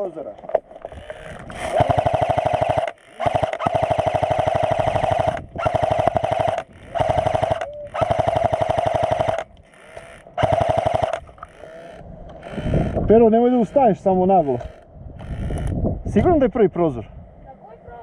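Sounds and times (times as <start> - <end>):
steady whine: 0.0 - 16.1
airsoft rifle full-auto bursts: 1.0 - 15.6.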